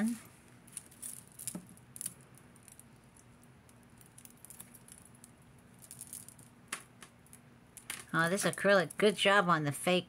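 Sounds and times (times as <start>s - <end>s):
beads and chain clicking: 0.6s - 9.3s.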